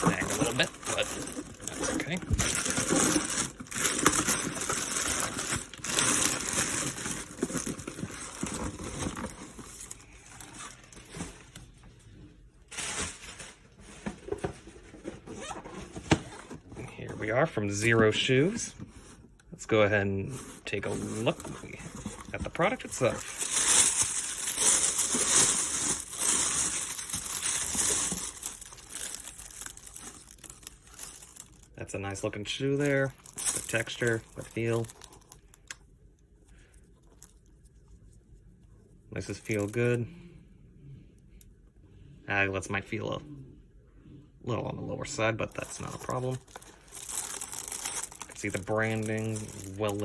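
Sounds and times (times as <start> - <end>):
packaging crinkling and rustling: 0.0 - 11.8, 12.7 - 19.2, 20.3 - 35.8, 36.7 - 37.7, 39.2 - 40.0, 45.4 - 50.0.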